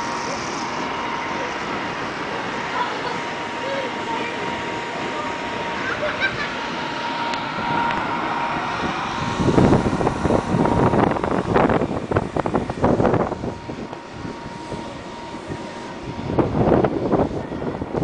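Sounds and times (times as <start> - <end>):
electric air blower droning: 0.0 - 18.0
wind buffeting microphone: 0.0 - 18.0.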